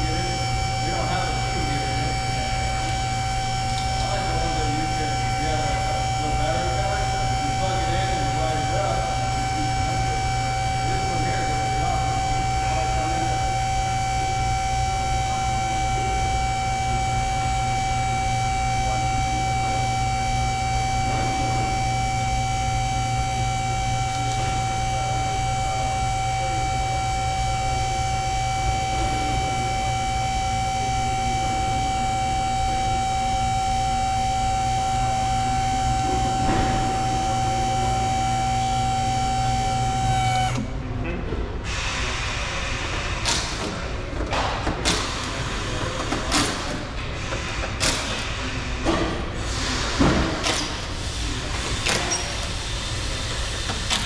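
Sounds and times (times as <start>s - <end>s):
steady mechanical whine: 0.0s - 54.0s.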